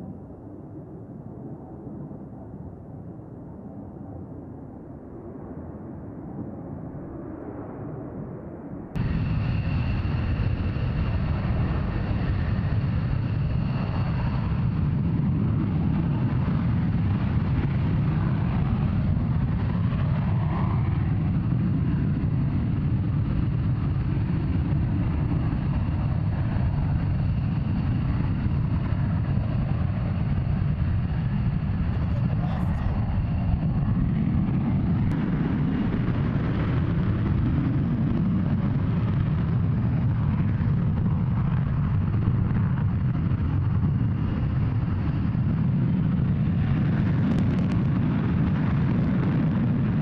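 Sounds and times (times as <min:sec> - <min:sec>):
jet engine rumble with whine: 0:00.0 - 0:50.0.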